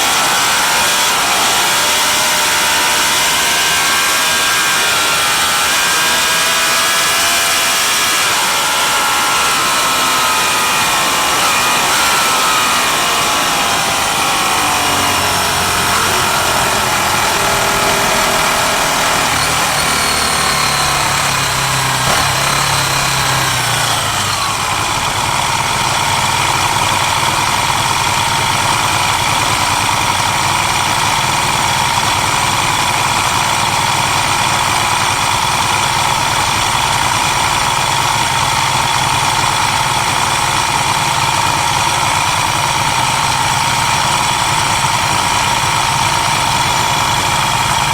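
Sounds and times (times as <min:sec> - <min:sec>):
motorcycle engines: 0:00.0 - 0:47.9.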